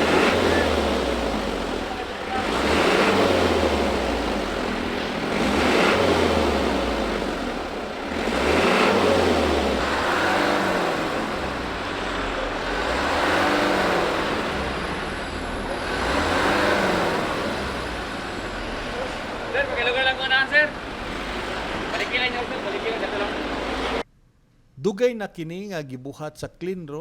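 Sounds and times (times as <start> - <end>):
vehicle engines running: 0.0 - 24.1.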